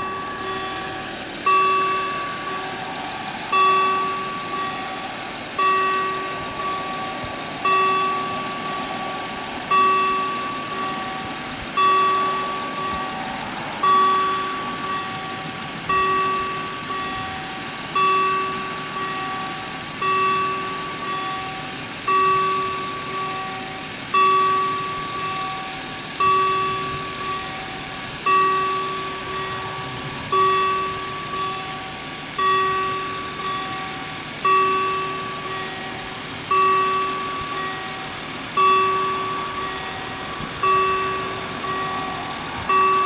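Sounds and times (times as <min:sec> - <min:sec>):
level crossing warning bell: 0:00.0 - 0:43.0
quieter second bell: 0:00.0 - 0:43.0.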